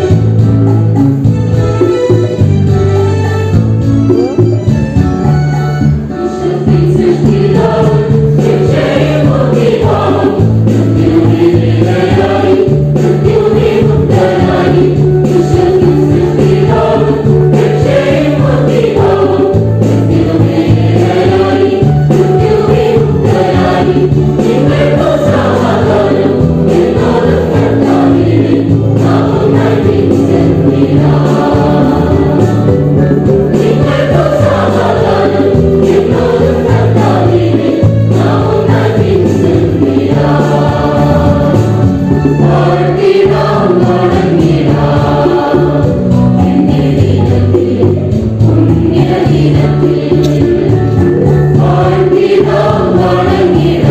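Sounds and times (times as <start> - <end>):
held bass notes: 0.0 - 53.9
choir singing a hymn: 6.1 - 53.9.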